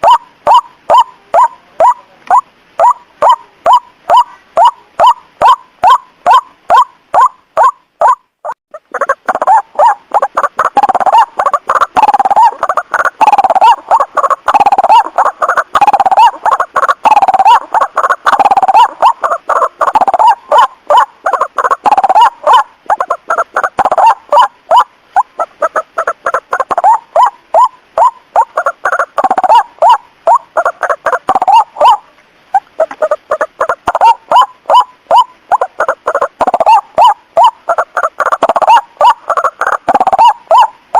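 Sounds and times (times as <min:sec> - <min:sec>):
bird harsh croaking calls: 0:00.0 - 0:40.8.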